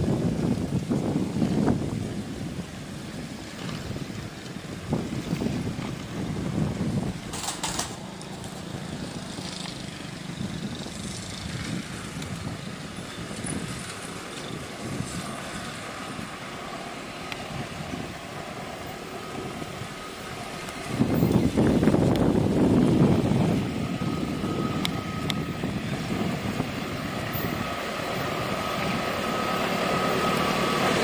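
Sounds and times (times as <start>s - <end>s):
diesel locomotive engine drone: 0.0s - 31.0s.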